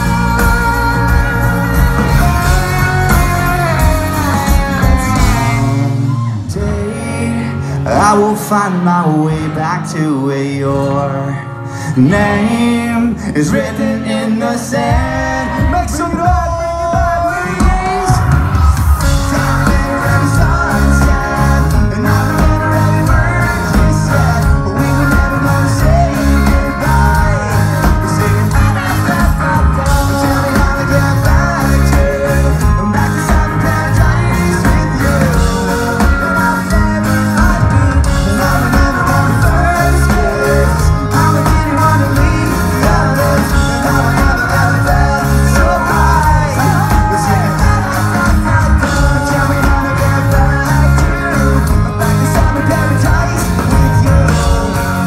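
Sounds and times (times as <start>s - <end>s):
lead singer singing: 0.0s - 55.0s
pop-punk band playing live: 0.0s - 55.0s.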